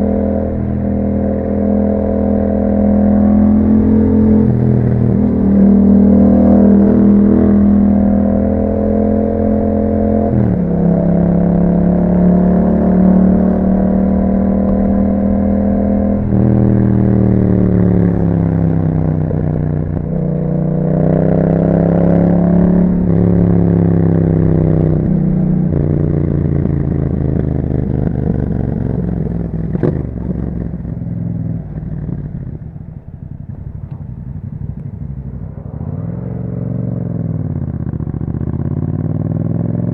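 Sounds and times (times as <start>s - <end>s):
motorcycle engine through gear changes: 0.0s - 39.9s.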